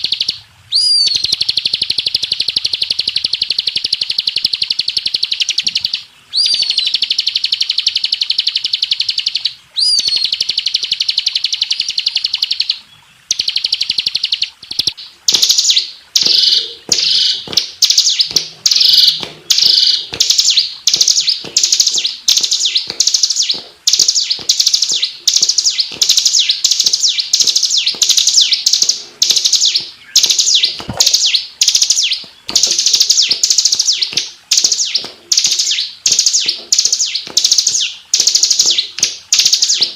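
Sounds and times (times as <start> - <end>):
bird chirping phrases: 0.0 - 39.9
bird singing high trill: 0.0 - 39.9.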